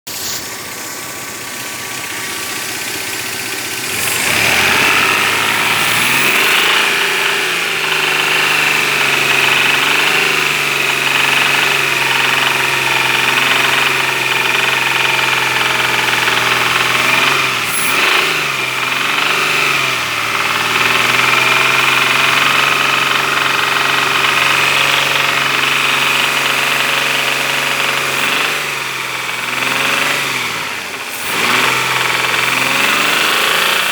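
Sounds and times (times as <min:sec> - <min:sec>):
engine running with a knock: 0:00.4 - 0:33.9.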